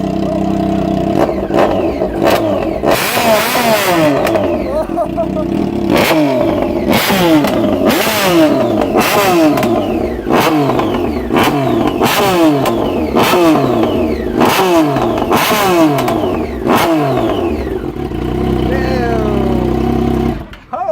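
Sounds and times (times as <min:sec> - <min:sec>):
motorcycle engine revving: 0:00.0 - 0:20.7.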